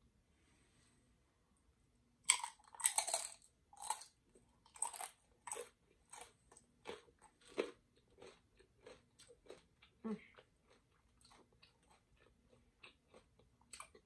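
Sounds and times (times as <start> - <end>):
tortilla chip crunching: 2.3 - 14.0.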